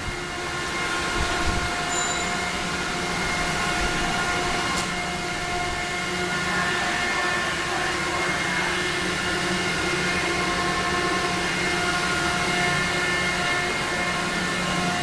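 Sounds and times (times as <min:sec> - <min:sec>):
machine noise with whining tones: 0:00.0 - 0:15.0.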